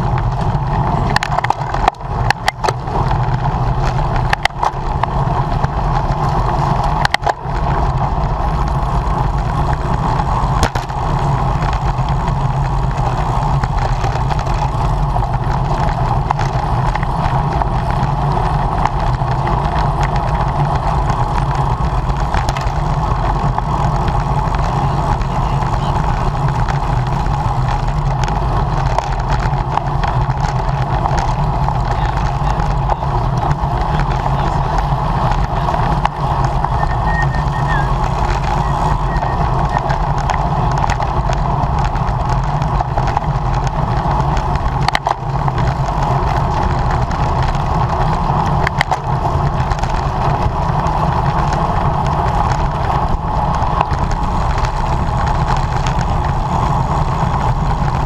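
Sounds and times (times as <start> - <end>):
road noise: 0.0 - 58.0
wind rush: 0.0 - 58.0.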